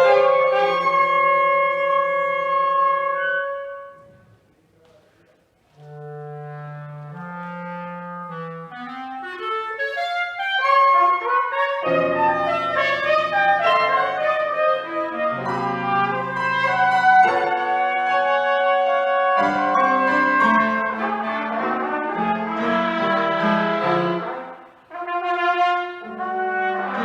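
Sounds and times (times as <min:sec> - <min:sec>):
clarinet trumpet and piano trio: 0:00.0 - 0:04.4, 0:05.7 - 0:27.0.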